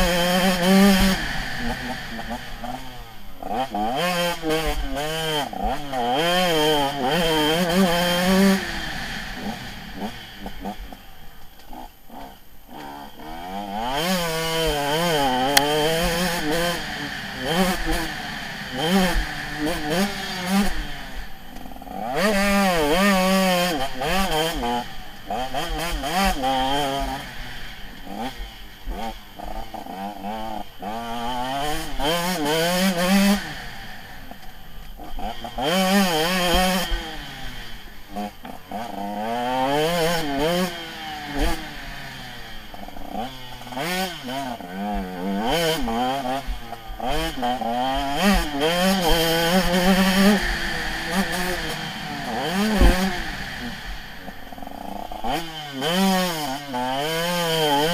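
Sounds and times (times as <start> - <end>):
motocross bike engine revving: 0.0 - 57.9.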